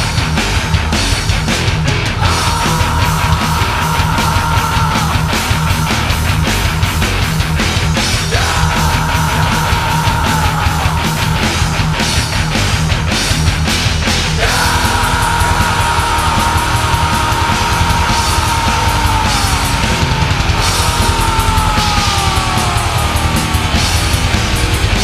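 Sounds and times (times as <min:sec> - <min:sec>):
heavy metal music: 0:00.0 - 0:25.0.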